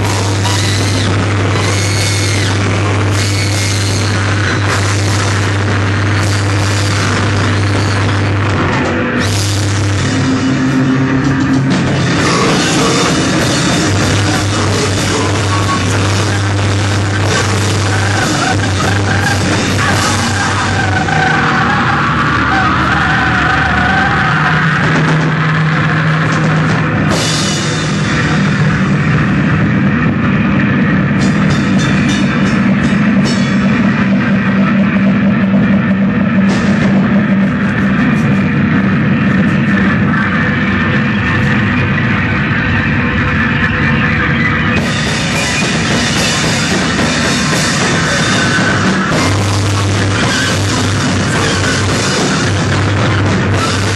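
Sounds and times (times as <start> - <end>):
drum kit and cymbals: 0.0 - 53.9
electric guitar: 0.0 - 53.9
steady low drone: 0.0 - 53.9.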